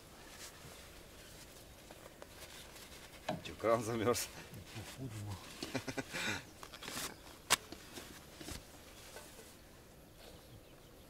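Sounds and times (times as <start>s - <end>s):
small ticks and rustles: 0.2s - 10.9s.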